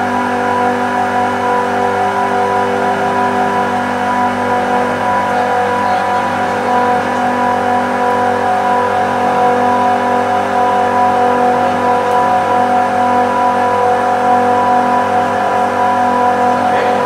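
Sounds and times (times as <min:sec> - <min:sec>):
industrial compressors humming: 0:00.0 - 0:17.0.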